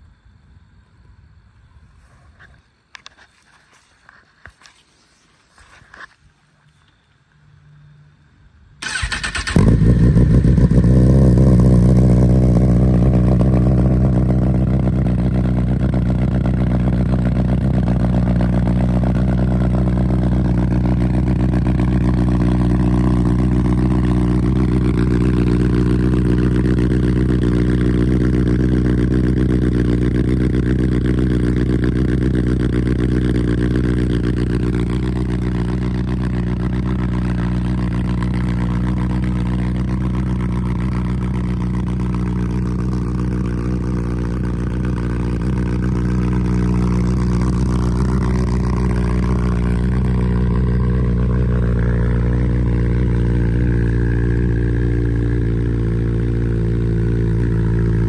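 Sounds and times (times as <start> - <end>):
motorcycle engine idling: 8.8 - 58.0.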